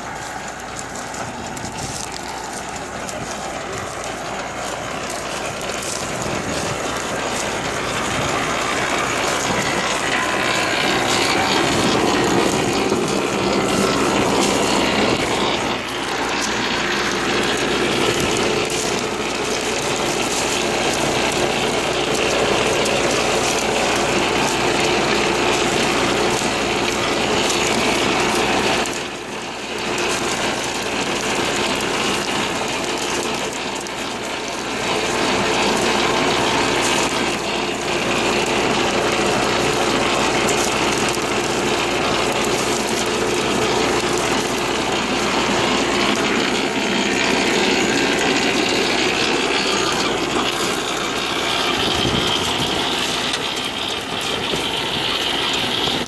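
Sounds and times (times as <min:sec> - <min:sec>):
potato digger chains clattering: 0:00.0 - 0:56.0
tractor engine running: 0:00.0 - 0:56.0.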